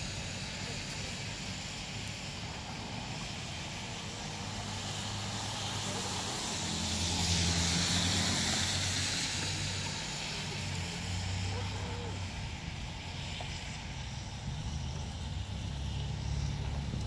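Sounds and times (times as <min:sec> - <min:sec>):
traffic engine hum: 0:00.0 - 0:17.0
tyres hissing on wet pavement: 0:00.0 - 0:17.0.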